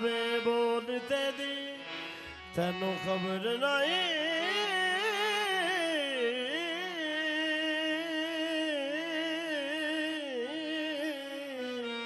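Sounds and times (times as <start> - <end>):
harmonium notes: 0.0 - 12.0.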